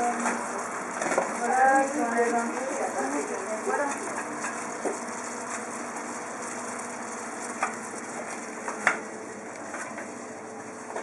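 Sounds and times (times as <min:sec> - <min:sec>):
fruit sizzling in a frying pan: 0:00.0 - 0:11.0.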